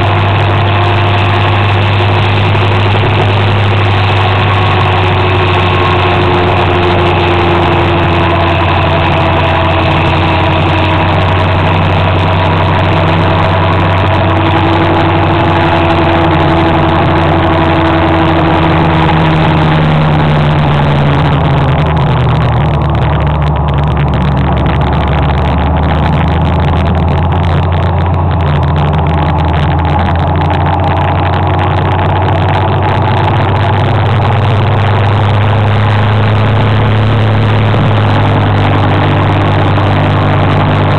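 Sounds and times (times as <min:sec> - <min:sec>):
motor scooter engine running: 0:00.0 - 0:40.9.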